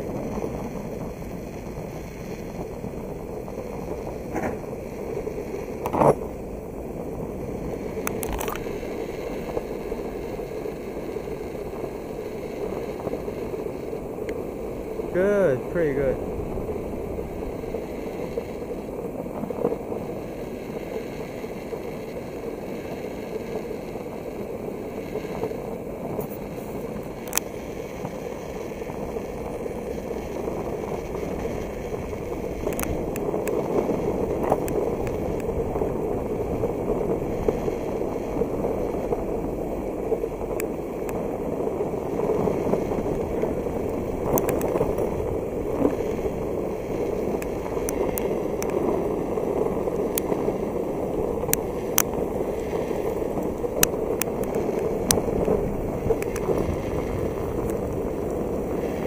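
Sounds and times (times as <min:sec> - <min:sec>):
skateboard rolling over pavement: 0:00.0 - 0:59.0.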